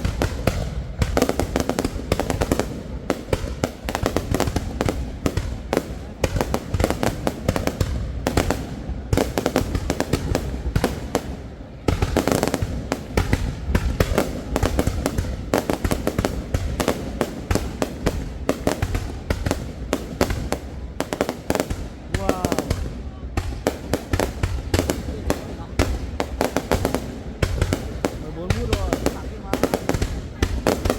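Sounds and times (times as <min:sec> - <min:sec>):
fireworks bangs and crackles: 0:00.0 - 0:30.9.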